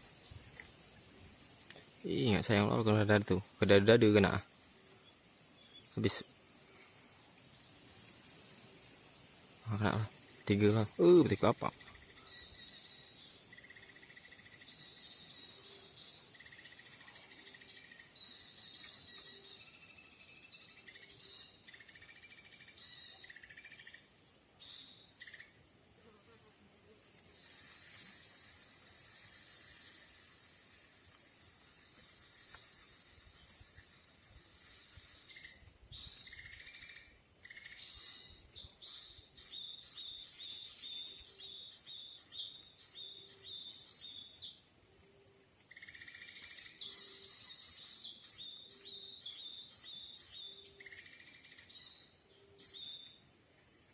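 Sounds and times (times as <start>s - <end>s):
songbirds calling: 0.0s - 53.9s.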